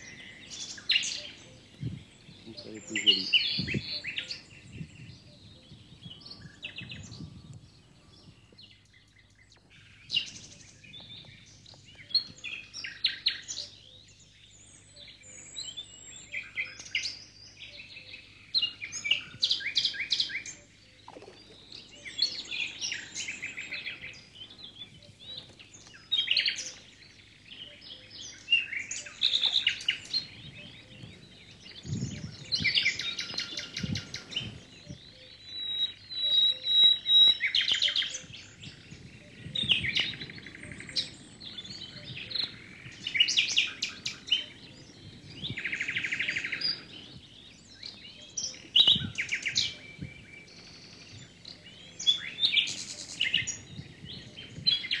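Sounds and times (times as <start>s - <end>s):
small birds singing: 0.0s - 55.0s.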